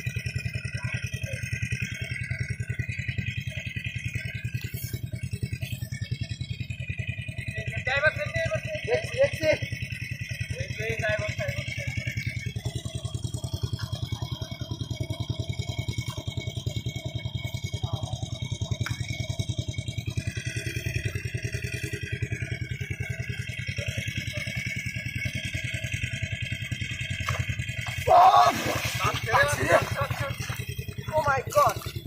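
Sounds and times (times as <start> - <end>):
small engine running steadily: 0.0 - 32.0.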